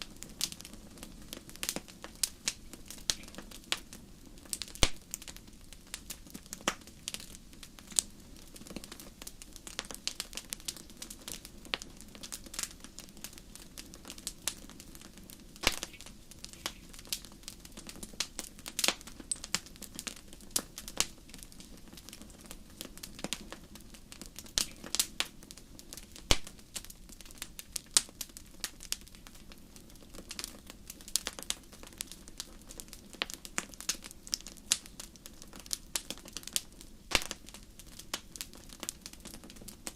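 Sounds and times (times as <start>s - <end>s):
flames rushing: 0.0s - 39.9s
wood fire pops and snaps: 0.0s - 39.9s.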